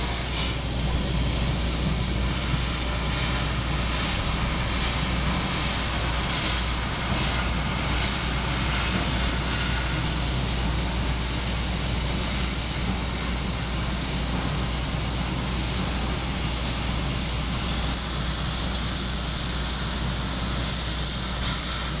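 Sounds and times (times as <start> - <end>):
gas jet hissing: 0.0 - 22.0
low machine hum: 0.0 - 22.0.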